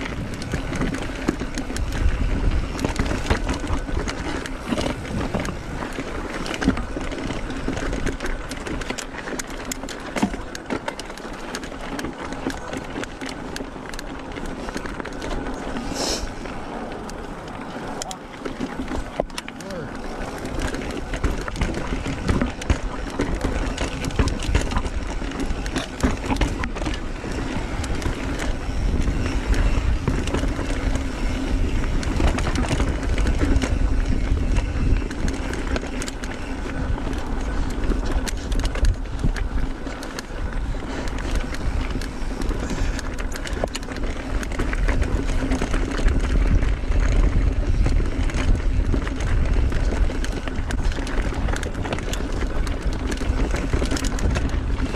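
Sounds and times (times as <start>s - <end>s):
bike rattling clicks: 0.0s - 54.9s
bike tyres on dirt and rock: 0.0s - 54.9s
wind rumbling on microphone: 0.0s - 54.9s.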